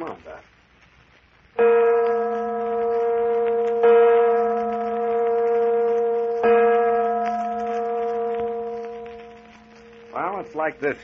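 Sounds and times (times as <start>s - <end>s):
church bell tolling: 1.6s - 11.0s.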